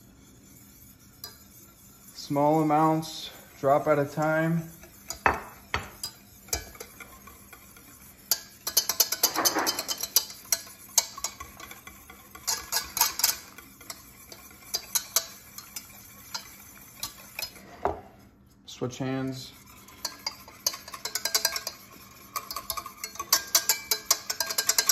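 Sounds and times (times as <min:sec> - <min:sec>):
whisk clicking against metal pan: 0:00.6 - 0:17.6, 0:19.4 - 0:24.9.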